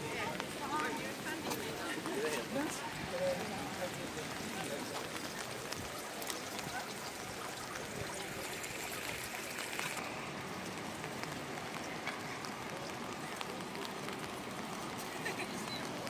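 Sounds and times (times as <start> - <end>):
rain hiss: 0.0 - 16.0
traffic on wet street: 0.0 - 16.0.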